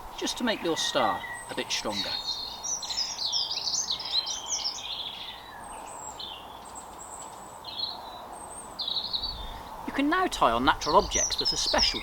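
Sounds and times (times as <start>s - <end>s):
soft outdoor hiss: 0.0s - 12.0s
songbird chirping and warbling: 0.1s - 12.0s.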